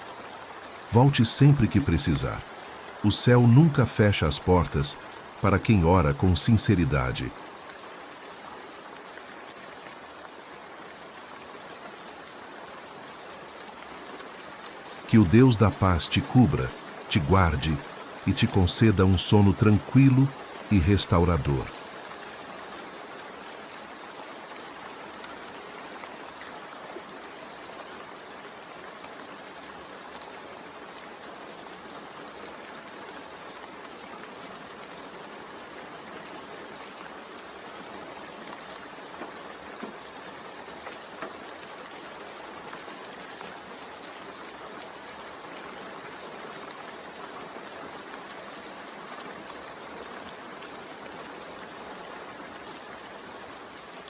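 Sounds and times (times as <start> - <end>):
louder raindrops: 0.0 - 54.0
steady rain falling: 0.0 - 54.0.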